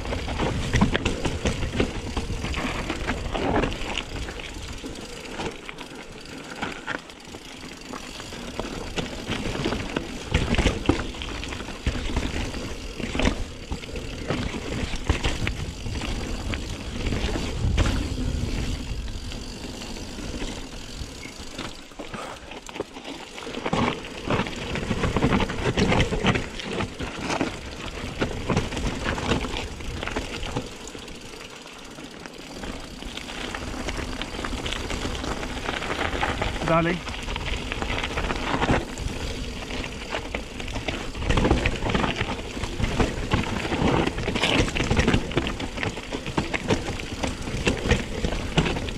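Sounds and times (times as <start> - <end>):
bike knocking and rattling: 0.0 - 48.9
bike tyres crunching on gravel: 0.0 - 48.9.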